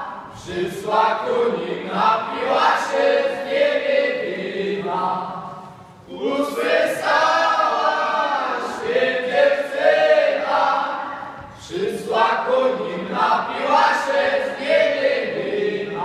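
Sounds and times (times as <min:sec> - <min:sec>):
group singing folk song: 0:00.0 - 0:16.0.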